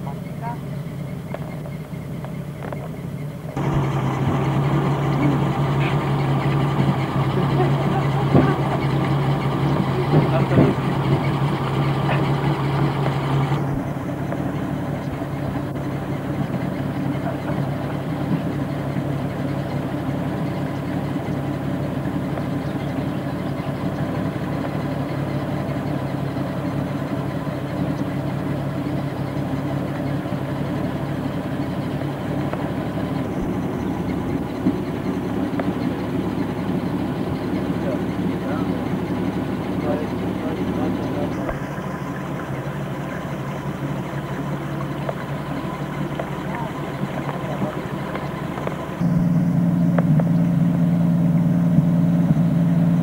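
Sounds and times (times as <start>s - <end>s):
deeper hum: 0.0s - 27.3s, 30.6s - 53.0s
engine idling drone: 0.0s - 53.0s.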